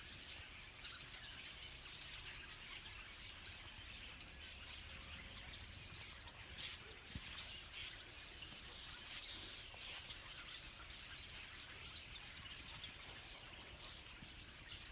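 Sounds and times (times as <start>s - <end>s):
flock of songbirds chirping: 0.0s - 14.9s.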